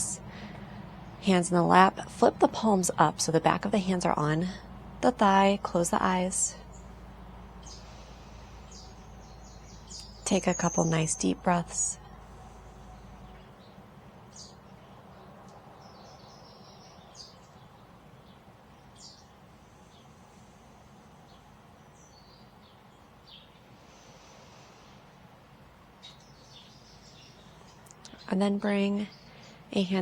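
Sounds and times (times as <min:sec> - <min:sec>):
faint birds chirping: 0:00.0 - 0:30.0
low background hiss: 0:00.0 - 0:30.0.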